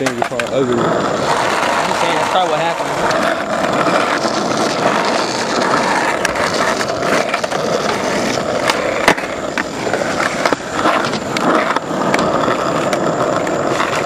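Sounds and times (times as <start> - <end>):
skateboard wheels rolling on asphalt: 0.0 - 14.0.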